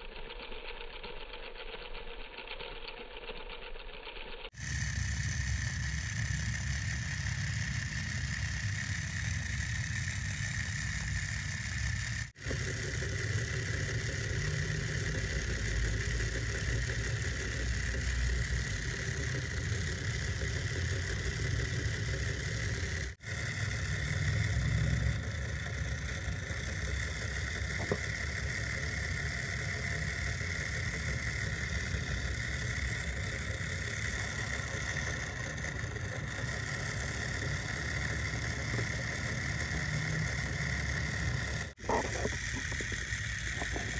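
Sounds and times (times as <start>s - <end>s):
electric grinder motor whining: 3.7s - 43.9s.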